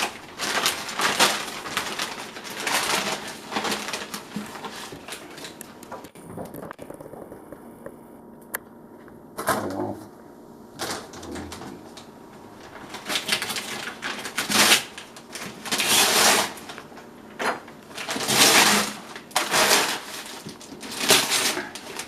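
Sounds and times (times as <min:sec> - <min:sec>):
wrapping paper rustling and tearing: 0:00.0 - 0:06.7, 0:10.8 - 0:22.0.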